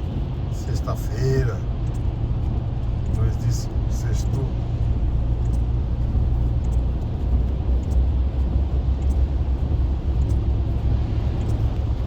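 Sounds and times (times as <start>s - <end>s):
car engine and tyres droning: 0.0s - 12.0s
faint ticks: 0.6s - 12.0s.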